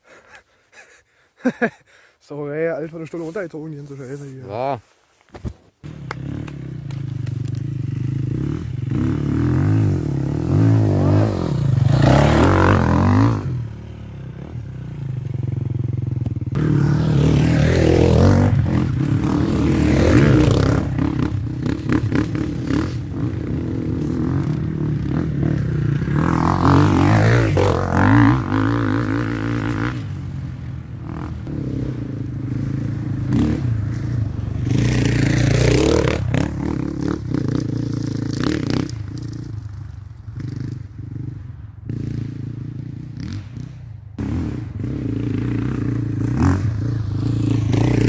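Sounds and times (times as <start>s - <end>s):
motorcycle engines revving: 5.8s - 48.0s.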